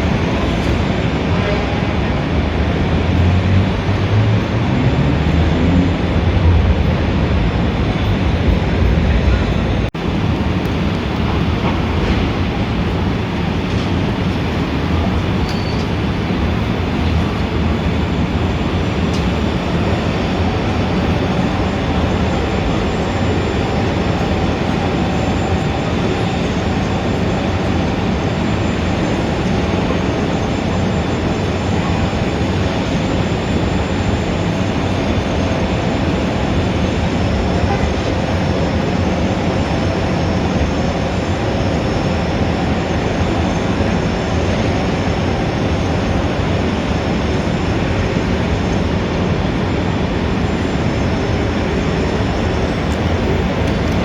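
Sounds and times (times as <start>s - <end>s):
city street traffic rumble: 0.0s - 54.0s.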